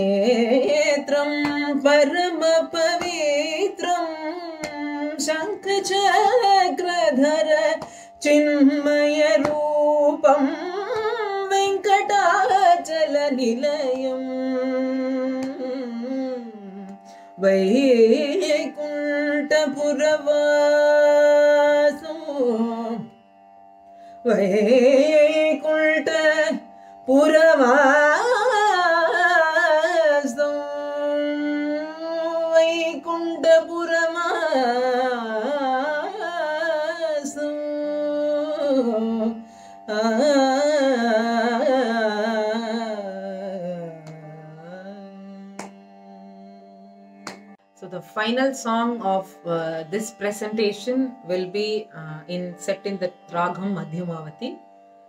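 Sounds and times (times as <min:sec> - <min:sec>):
woman singing classical vocal: 0:00.0 - 0:23.2, 0:24.2 - 0:54.7.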